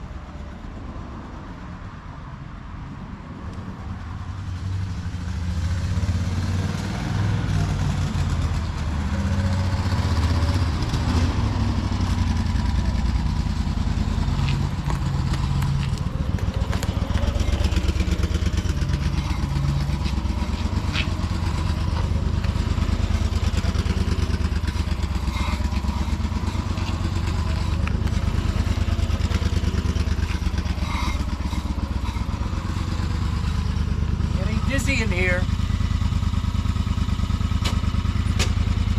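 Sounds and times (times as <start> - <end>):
truck engine running: 4.5 - 38.9.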